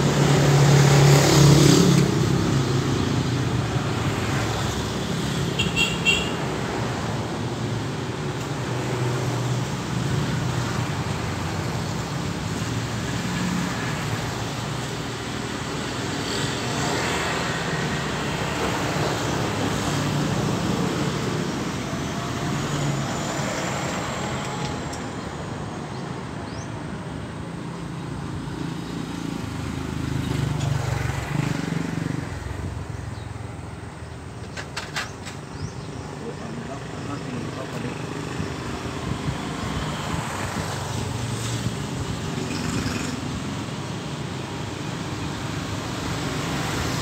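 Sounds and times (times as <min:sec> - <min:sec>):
traffic engine hum: 0:00.0 - 0:47.0.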